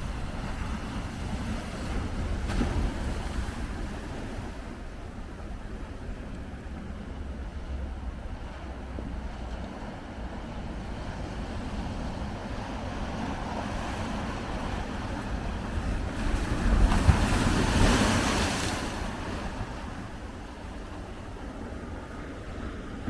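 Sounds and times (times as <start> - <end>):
ocean waves breaking: 0.0 - 23.0
wind rumbling on microphone: 0.0 - 23.0.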